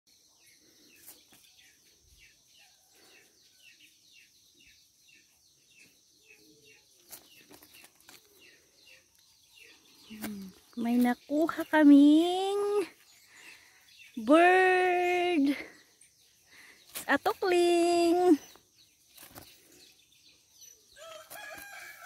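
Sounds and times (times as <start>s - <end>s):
bird chirping: 0.1s - 22.0s.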